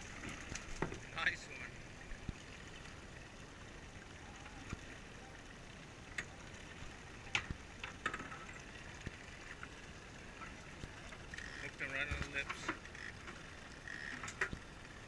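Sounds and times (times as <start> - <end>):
boat hum: 0.0 - 15.0
water: 0.0 - 15.0.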